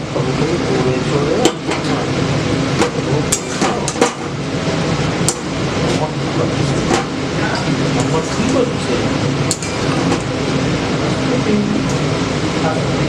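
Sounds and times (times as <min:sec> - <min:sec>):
loud steady background noise: 0:00.0 - 0:13.0.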